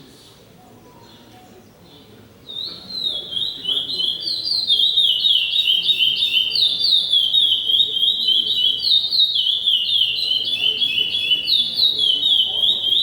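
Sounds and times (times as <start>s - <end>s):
songbird singing: 0.6s - 13.0s.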